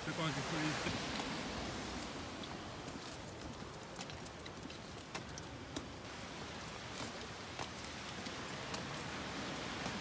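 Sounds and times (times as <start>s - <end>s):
rain on wet paving: 0.0s - 10.0s.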